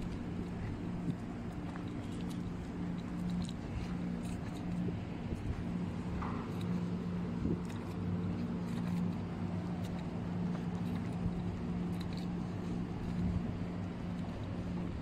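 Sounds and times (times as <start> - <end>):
footsteps on dirt path: 0.0 - 15.0
low mechanical hum: 0.0 - 15.0.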